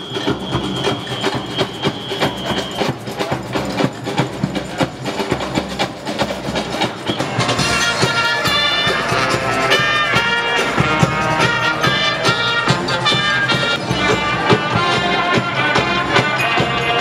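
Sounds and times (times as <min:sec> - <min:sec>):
upbeat brass band music: 0:00.0 - 0:17.0.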